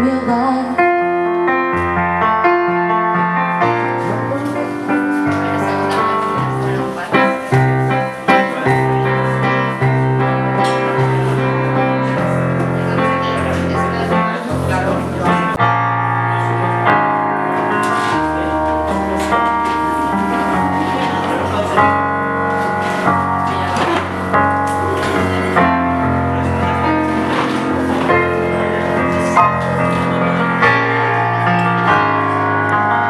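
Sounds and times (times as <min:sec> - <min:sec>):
held bass notes: 0:00.0 - 0:33.0
piano chords: 0:00.0 - 0:33.0.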